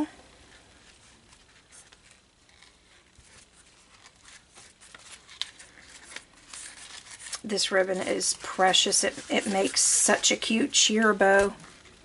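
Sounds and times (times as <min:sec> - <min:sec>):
ribbon rustling and crinkling: 0:00.0 - 0:12.0.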